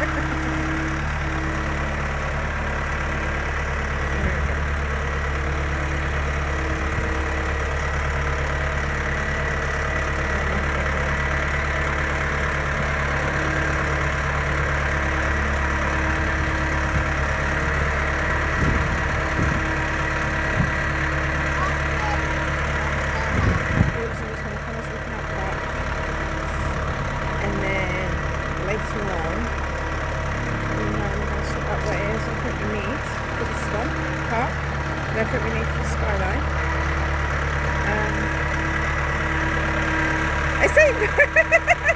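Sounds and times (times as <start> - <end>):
forklift engine running: 0.0 - 41.9.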